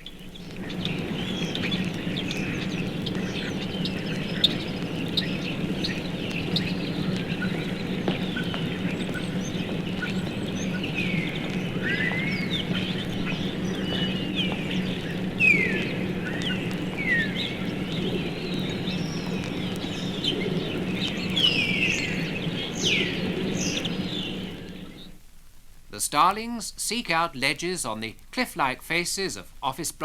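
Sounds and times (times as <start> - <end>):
starlings whistling and chattering: 0.0 - 25.2.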